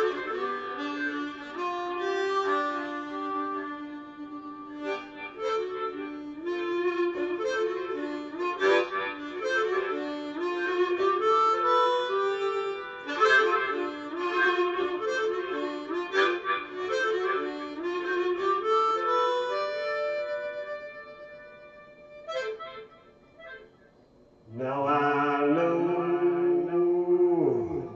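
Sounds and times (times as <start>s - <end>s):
blues harmonica melody: 0.0s - 23.9s.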